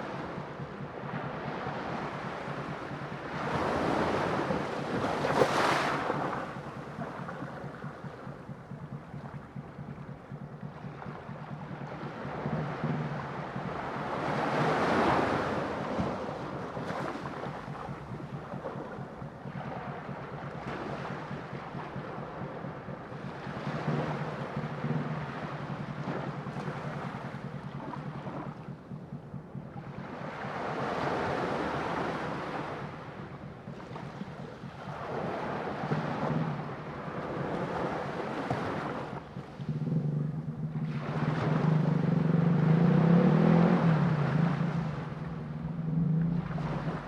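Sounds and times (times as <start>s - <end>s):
low steady hum: 0.0s - 47.0s
sea waves washing in: 0.0s - 47.0s.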